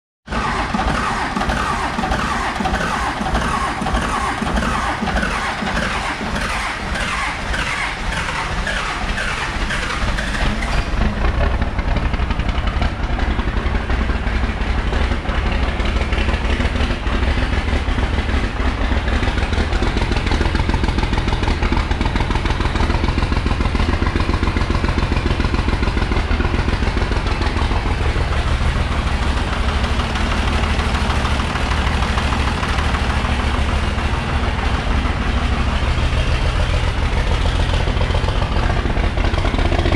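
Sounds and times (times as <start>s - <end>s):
diesel engine clattering idle: 0.3s - 39.9s
diesel engine cranking on starter: 0.3s - 39.9s.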